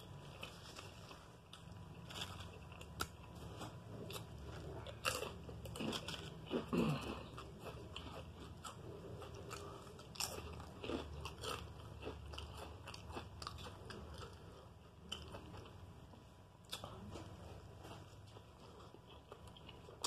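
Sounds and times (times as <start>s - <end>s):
person chewing sandwich: 0.0s - 20.0s.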